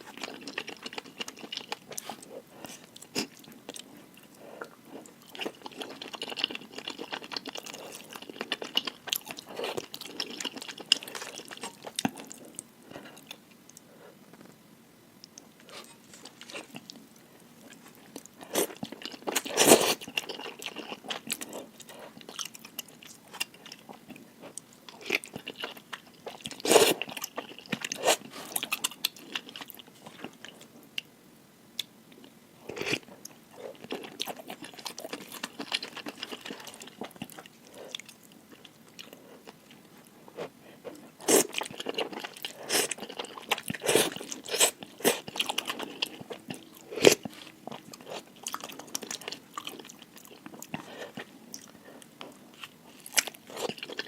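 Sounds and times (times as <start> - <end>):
person chewing noodles: 0.0 - 13.9, 15.2 - 31.1, 32.2 - 54.0.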